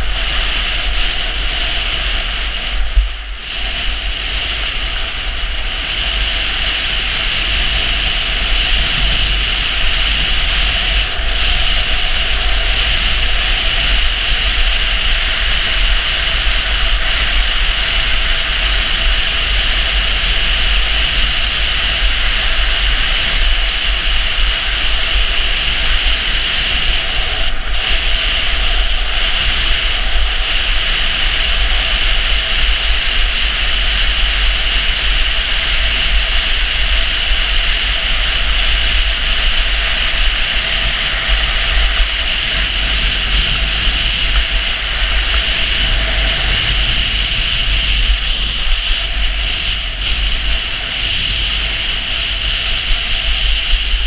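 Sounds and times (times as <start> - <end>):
deep buffeting rumble: 0.0 - 54.0
skis hissing on snow: 0.0 - 54.0
wind rushing over microphone: 0.0 - 54.0.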